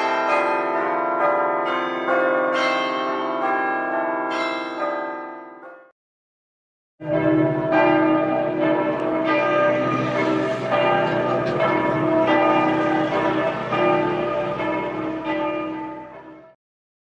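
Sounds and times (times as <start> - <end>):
church bells ringing: 0.0 - 5.9, 7.0 - 16.6.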